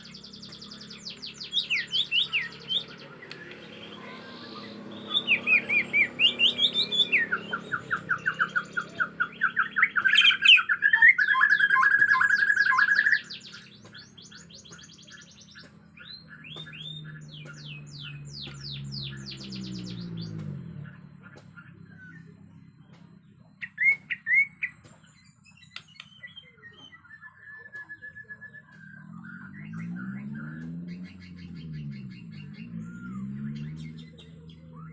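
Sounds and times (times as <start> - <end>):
songbird singing trills and whistles: 0.0 - 34.9.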